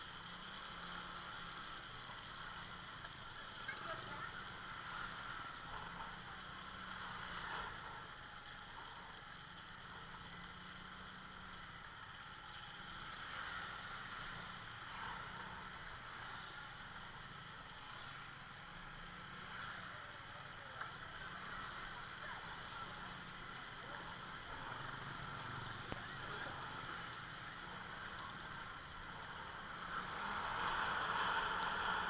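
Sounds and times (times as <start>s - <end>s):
motor scooter running: 0.0s - 32.0s
road noise: 0.0s - 32.0s
wind: 0.0s - 32.0s.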